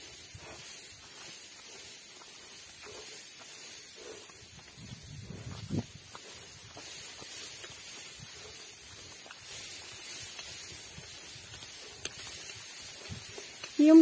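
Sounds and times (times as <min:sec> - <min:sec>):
soft ticks and rustles: 0:00.0 - 0:14.0.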